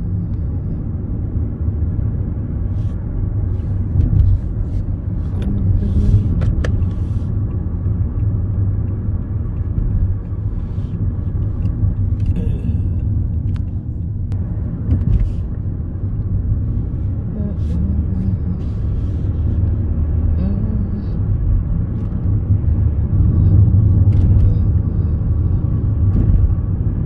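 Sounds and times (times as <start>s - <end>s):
car interior road and engine rumble: 0.0s - 27.0s.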